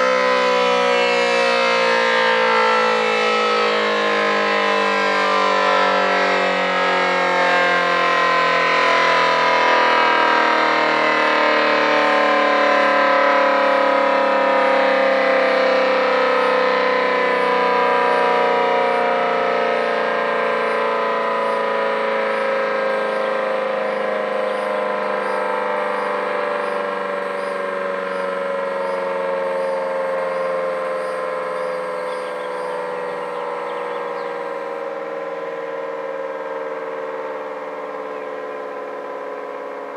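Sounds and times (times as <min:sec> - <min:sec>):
siren housing rattle: 0:00.0 - 0:39.9
siren winding down: 0:00.0 - 0:39.9.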